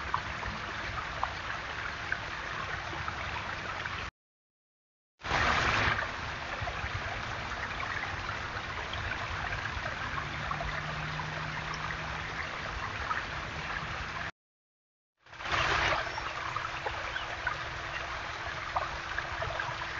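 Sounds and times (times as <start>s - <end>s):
water trickling over stones: 0.0s - 4.1s, 5.2s - 14.3s, 15.3s - 19.9s.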